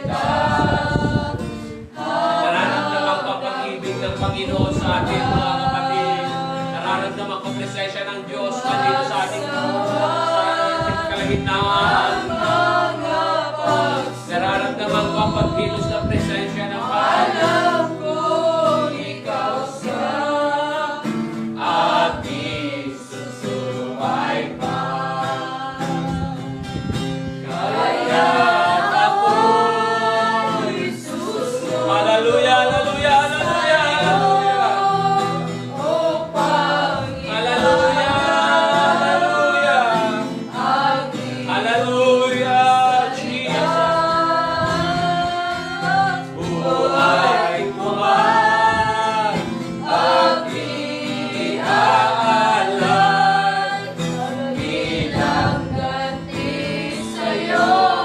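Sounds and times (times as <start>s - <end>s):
strummed acoustic guitar: 0.0s - 58.0s
man singing: 2.0s - 26.6s, 27.5s - 58.0s.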